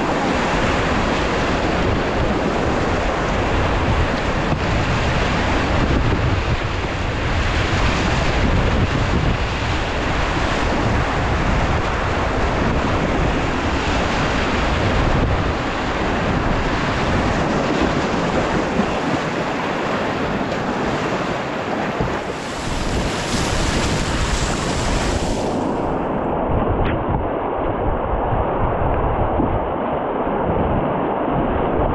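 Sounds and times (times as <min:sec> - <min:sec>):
whitewater rapids rushing: 0:00.0 - 0:26.1
wind rumbling on microphone: 0:00.0 - 0:31.9.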